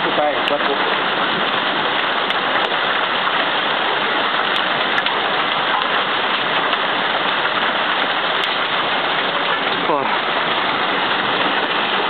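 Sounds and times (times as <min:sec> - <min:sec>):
hail and heavy rain pelting: 0:00.0 - 0:12.0.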